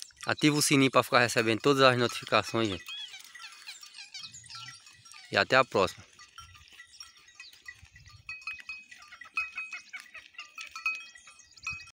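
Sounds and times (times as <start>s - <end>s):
livestock bells clanking: 0.0s - 12.0s.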